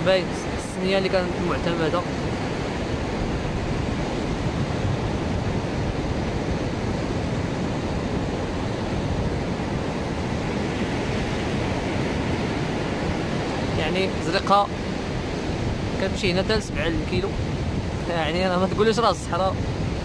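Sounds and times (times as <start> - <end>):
surf breaking on a beach: 0.0 - 20.0
wind rumbling on microphone: 0.0 - 20.0.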